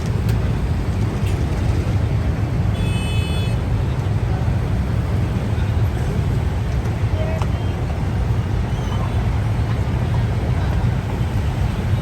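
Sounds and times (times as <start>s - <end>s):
vehicle and traffic rumble: 0.0s - 12.0s.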